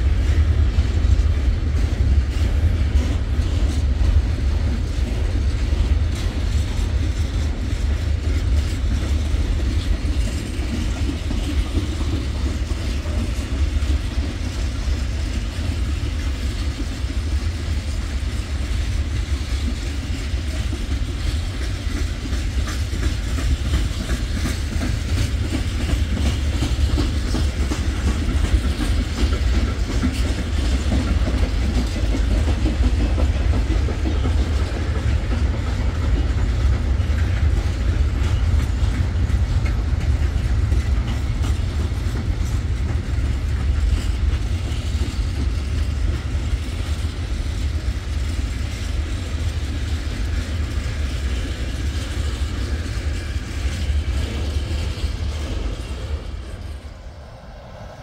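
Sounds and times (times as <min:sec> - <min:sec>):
clacking over rail joints: 0:00.0 - 0:57.0
train wheels rumbling on rails: 0:00.0 - 0:58.0.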